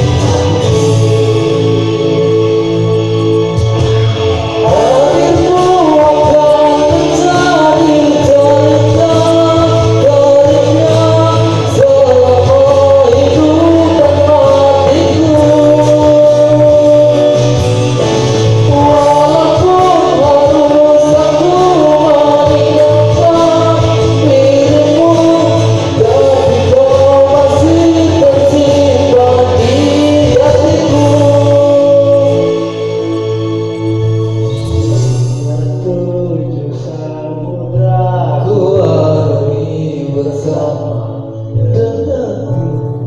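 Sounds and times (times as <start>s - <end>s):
musical accompaniment: 0.0s - 43.0s
person singing: 0.0s - 43.0s.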